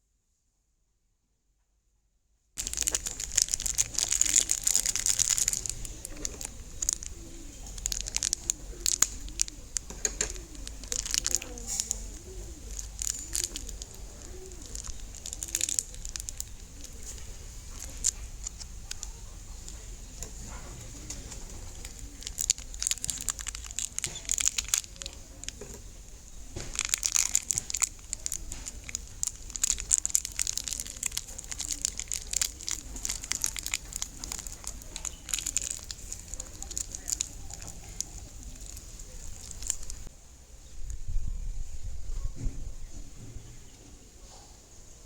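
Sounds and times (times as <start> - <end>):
crinkling handling noise: 2.6 - 40.1.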